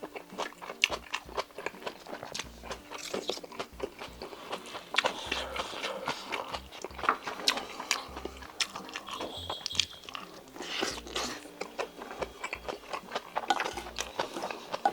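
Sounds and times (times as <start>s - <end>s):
person chewing: 0.0s - 14.9s.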